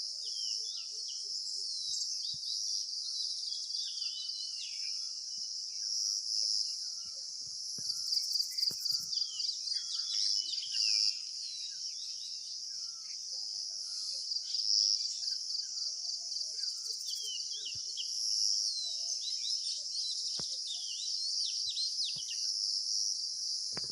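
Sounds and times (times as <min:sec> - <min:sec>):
high-pitched insect chorus: 0:00.0 - 0:23.9.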